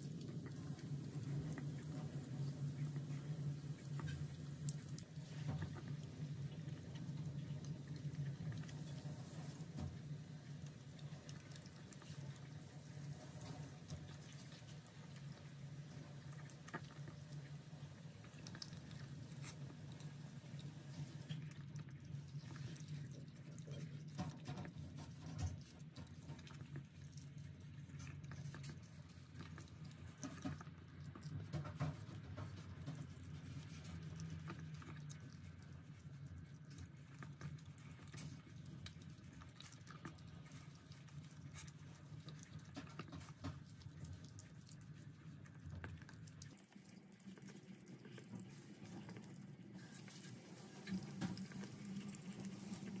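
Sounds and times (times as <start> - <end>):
low steady hum: 0.0 - 53.0
puppy licking and chewing: 0.0 - 53.0.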